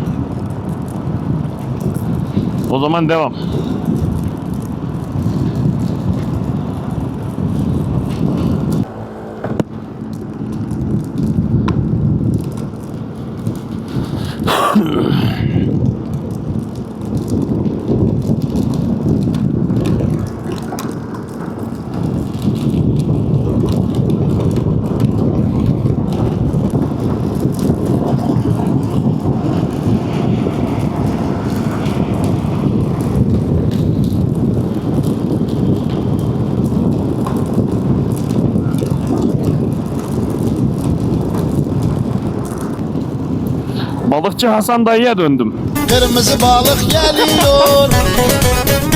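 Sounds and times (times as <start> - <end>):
motorcycle engine and road noise: 0.0 - 44.4
wind rushing over microphone: 0.0 - 48.9.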